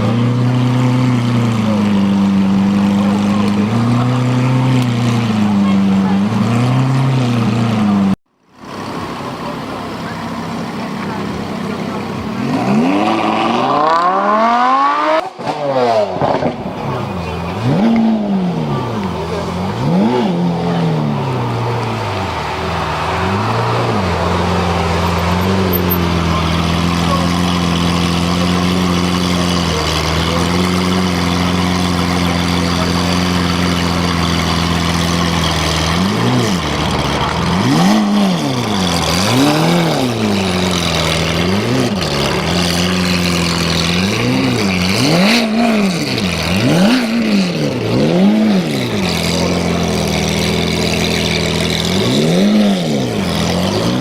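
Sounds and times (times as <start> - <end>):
car engine idling: 0.0 - 12.5, 16.5 - 54.0
car engine revving in blips: 0.0 - 54.0.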